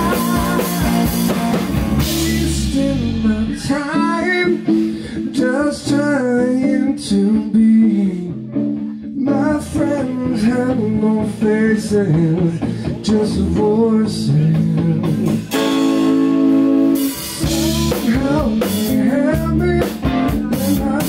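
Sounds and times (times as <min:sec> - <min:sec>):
man singing: 0:00.0 - 0:15.6, 0:17.1 - 0:21.0
live rock band playing: 0:00.0 - 0:21.0.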